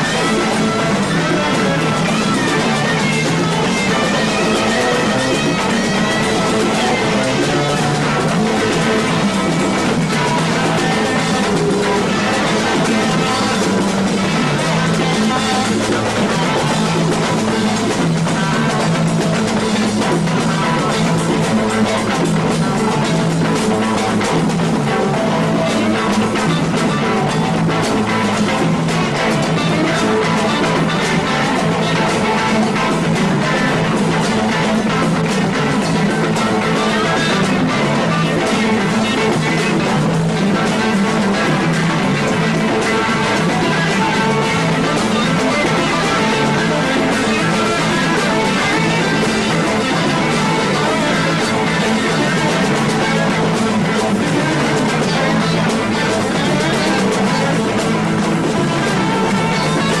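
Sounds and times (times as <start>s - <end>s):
bass guitar: 0.0s - 60.0s
drum kit: 0.0s - 60.0s
electric guitar: 0.0s - 60.0s.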